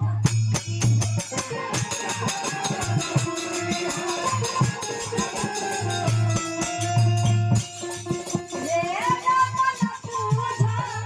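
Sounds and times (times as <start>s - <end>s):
jingling percussion: 0.0s - 11.0s
held melody line: 0.8s - 11.0s.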